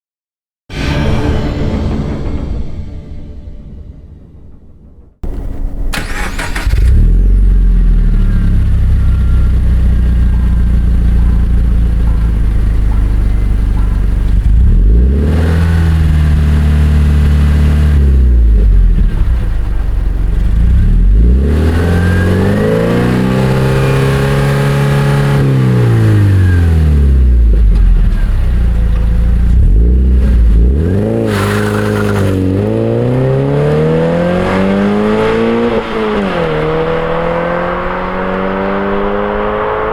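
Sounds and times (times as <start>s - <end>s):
car engine idling and revving: 5.2s - 39.9s.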